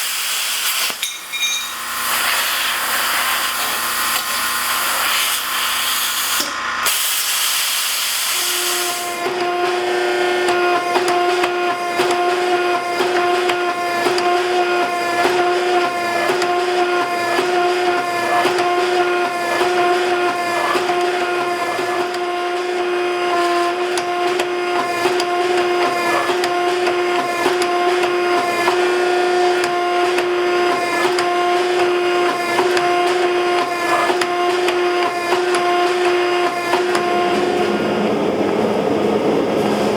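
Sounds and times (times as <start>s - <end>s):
hydraulic pump humming: 0.2s - 39.9s.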